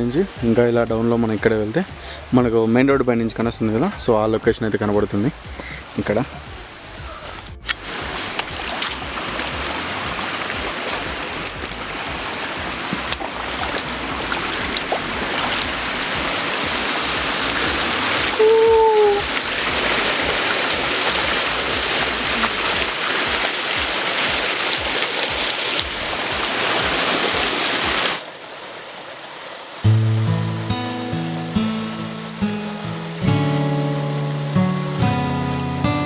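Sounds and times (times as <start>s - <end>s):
flowing water rushing: 0.0s - 36.0s.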